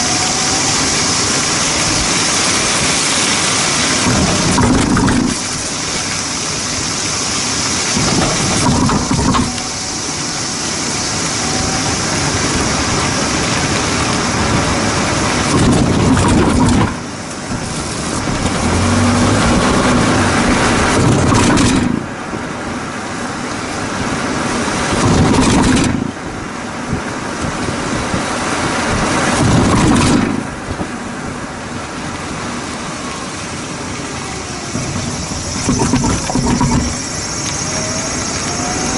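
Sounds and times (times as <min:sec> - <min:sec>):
tyre and road noise: 0:00.0 - 0:38.9.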